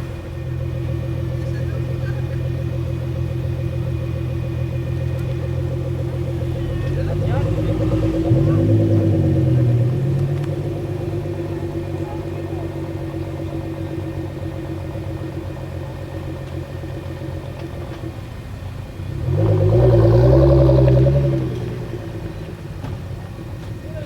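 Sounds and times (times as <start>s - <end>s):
sports car engine idling and revving: 0.0s - 24.0s.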